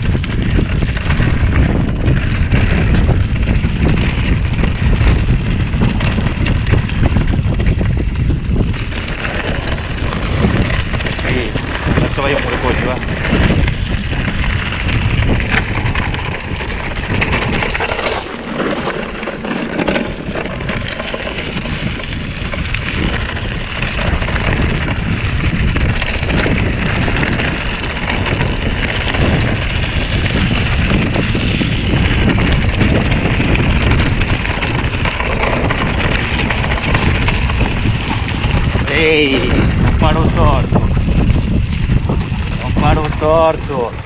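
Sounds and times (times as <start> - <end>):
bike rattling: 0.0 - 44.0
tyres crunching on gravel: 0.0 - 44.0
wind rumbling on microphone: 0.0 - 44.0.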